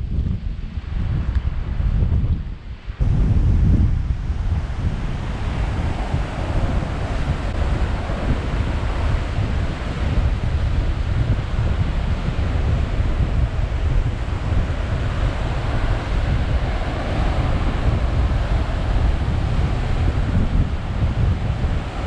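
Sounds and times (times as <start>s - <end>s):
heavy surf against cliffs: 0.0s - 22.0s
wind buffeting microphone: 0.0s - 22.0s.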